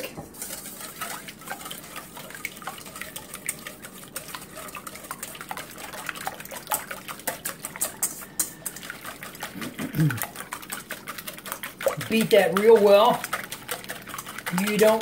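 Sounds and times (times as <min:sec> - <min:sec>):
whisk beating in metal bowl: 0:00.0 - 0:15.0.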